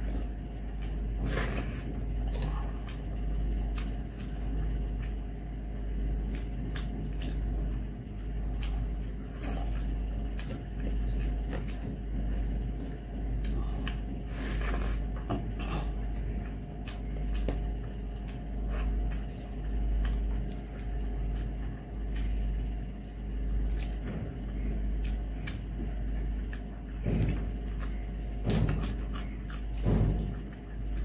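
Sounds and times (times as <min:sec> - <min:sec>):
steady low hum: 0:00.0 - 0:31.0
wet chewing and lip smacks: 0:00.7 - 0:05.4, 0:06.0 - 0:14.1, 0:16.3 - 0:24.2, 0:24.8 - 0:31.0.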